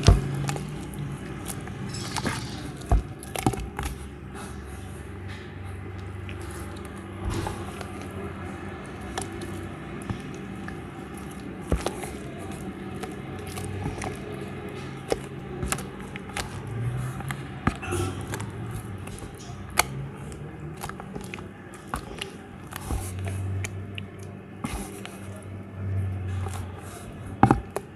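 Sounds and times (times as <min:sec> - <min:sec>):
steady low hum: 0:00.0 - 0:27.9
wet dough being kneaded: 0:00.0 - 0:27.9.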